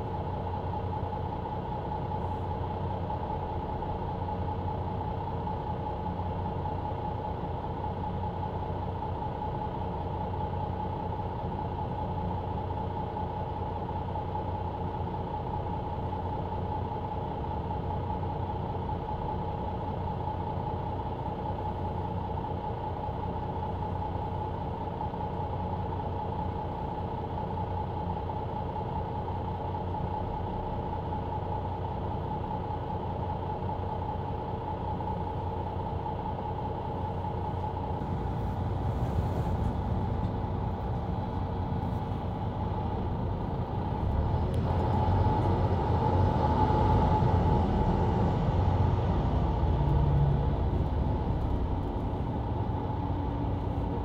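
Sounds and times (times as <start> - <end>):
bus engine running with whine: 0.0 - 54.0.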